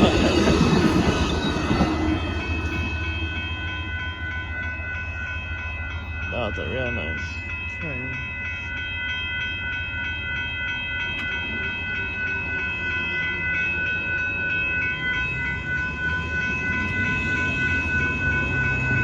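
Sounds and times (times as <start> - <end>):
crossing warning bell: 0.0 - 19.0
train rumbling past: 0.0 - 19.0.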